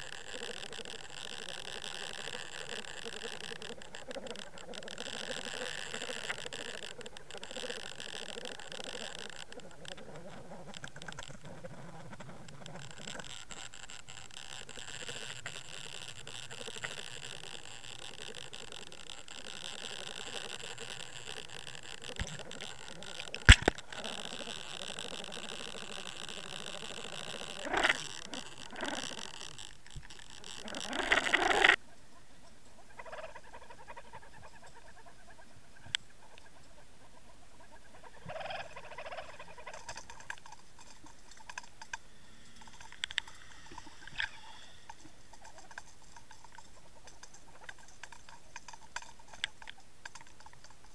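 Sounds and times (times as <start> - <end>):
faint whine: 0.0 - 50.9
small ticks and clicks: 0.0 - 50.9.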